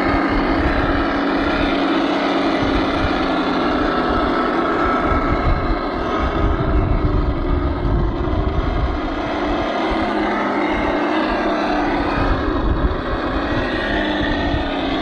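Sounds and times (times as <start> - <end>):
simulated engine sound: 0.0 - 15.0.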